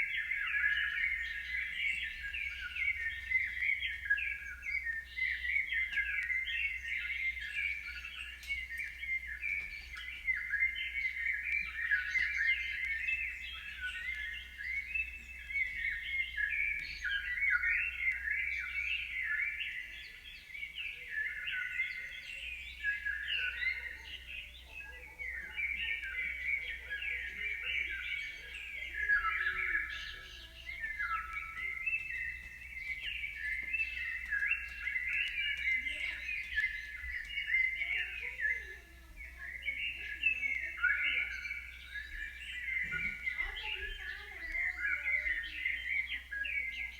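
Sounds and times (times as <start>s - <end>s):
birds chirping and twittering: 0.0s - 46.9s.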